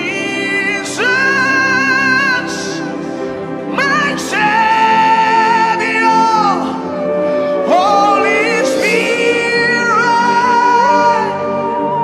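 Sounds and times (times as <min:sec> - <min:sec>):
sustained chords: 0:00.0 - 0:12.0.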